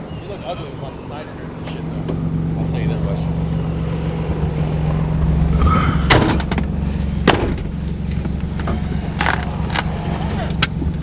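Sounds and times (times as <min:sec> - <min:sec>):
car engine idling: 0:00.0 - 0:11.0
car doors slamming: 0:00.6 - 0:10.9.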